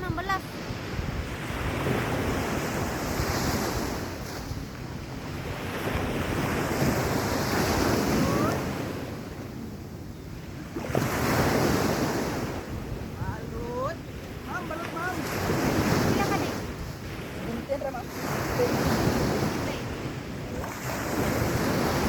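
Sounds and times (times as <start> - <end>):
waves washing onto beach: 0.0 - 22.0
wind buffeting microphone: 0.0 - 22.0.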